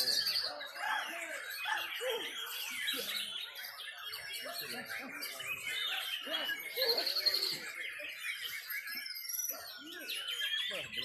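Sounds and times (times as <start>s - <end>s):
high rapid bird trill: 0.0s - 11.0s
songbirds singing whistles: 0.0s - 11.0s.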